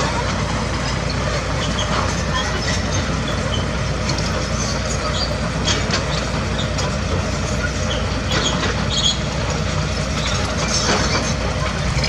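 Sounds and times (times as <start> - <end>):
diesel engine running: 0.0 - 12.0
metallic squeaks and clanks: 0.2 - 12.0.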